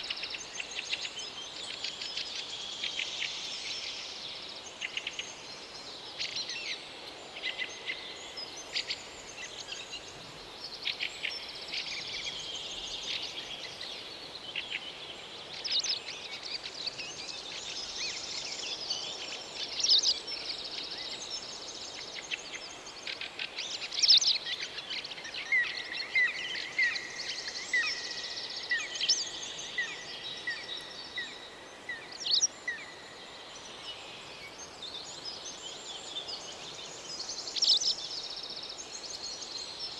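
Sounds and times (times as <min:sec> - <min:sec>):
steady high-pitched hiss: 0:00.0 - 0:39.9.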